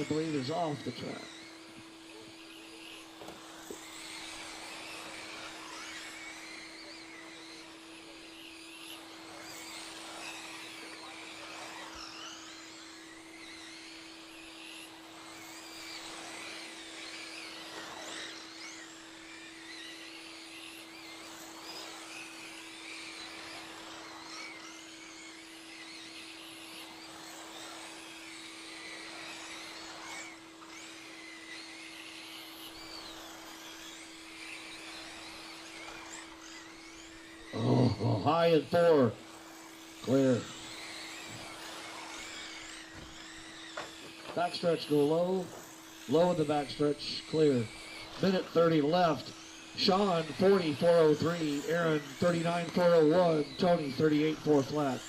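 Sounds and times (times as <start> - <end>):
electric motors whining: 0.0 - 55.0
steady hum: 0.0 - 55.0.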